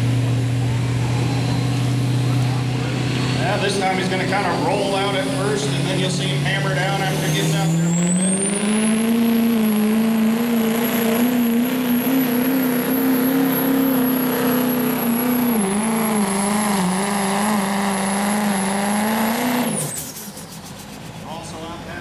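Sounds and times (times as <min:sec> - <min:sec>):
diesel engine at full throttle: 0:00.0 - 0:22.0
turbocharger whistle: 0:00.6 - 0:21.6.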